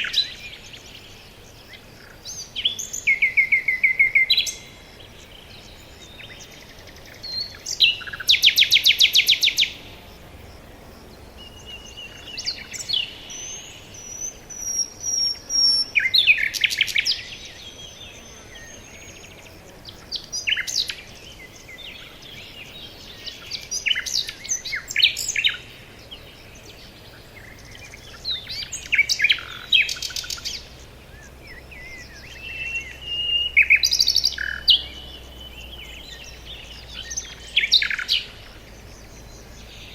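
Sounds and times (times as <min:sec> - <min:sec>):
faint background hiss: 0:00.0 - 0:39.9
forest birds singing: 0:00.0 - 0:39.9.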